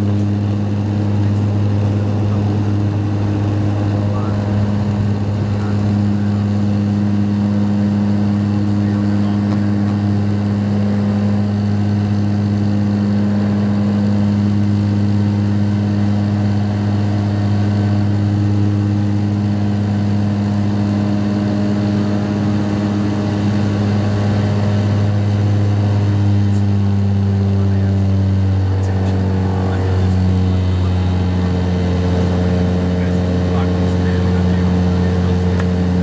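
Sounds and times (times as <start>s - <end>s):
turboprop engine drone: 0.0s - 36.0s.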